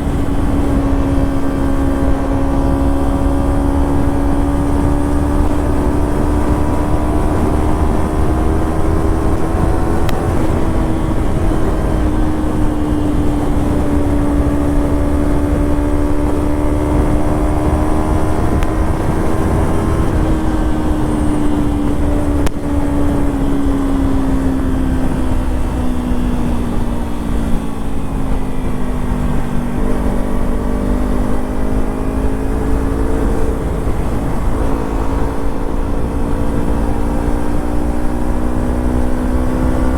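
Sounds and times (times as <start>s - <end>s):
motorcycle engine at high revs: 0.0s - 39.9s
wind rush on microphone: 0.0s - 39.9s.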